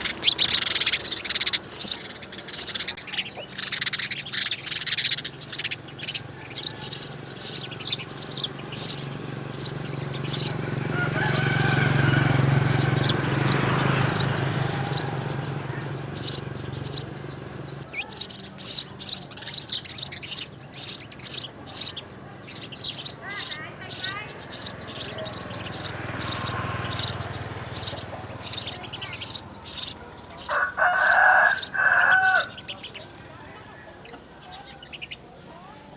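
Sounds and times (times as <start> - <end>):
sparrows chirping: 0.0 - 35.9.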